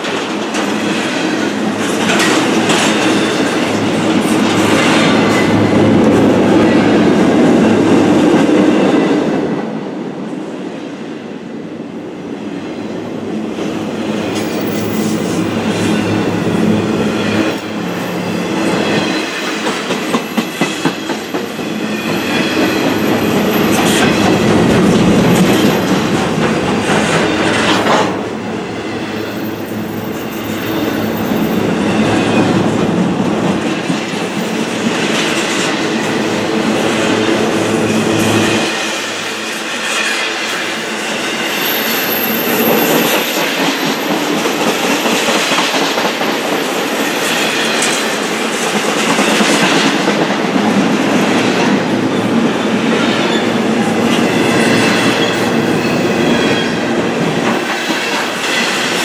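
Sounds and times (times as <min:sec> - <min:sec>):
freight train wheels roaring: 0:00.0 - 0:59.0.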